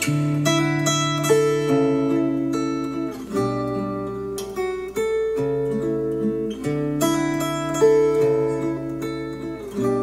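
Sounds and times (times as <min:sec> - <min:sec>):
acoustic guitar chords through speakers: 0:00.0 - 0:10.0.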